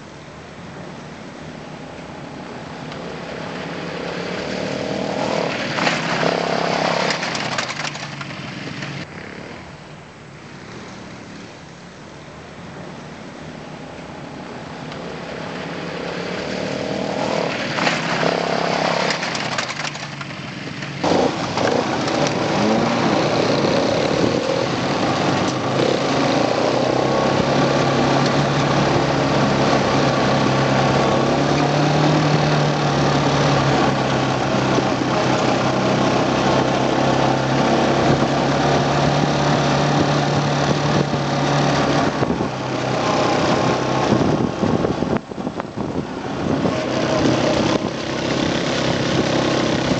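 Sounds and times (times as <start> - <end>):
quad bike engine: 2.5 - 9.8, 14.5 - 49.9.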